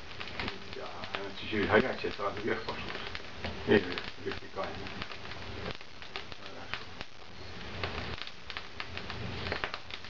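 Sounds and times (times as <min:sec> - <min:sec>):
wood fire crackling and popping: 0:00.0 - 0:10.0.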